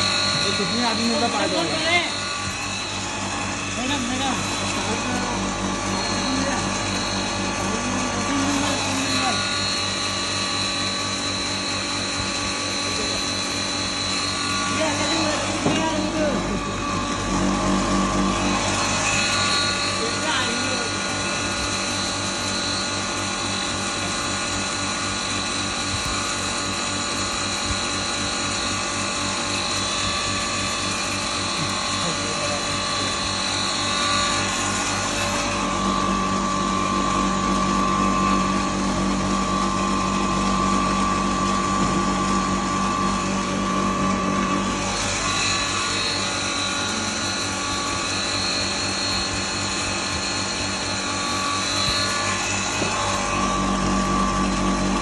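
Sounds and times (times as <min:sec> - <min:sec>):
low throbbing hum: 0:00.0 - 0:22.5, 0:25.7 - 0:55.0
grinding mill machine whine: 0:00.0 - 0:55.0.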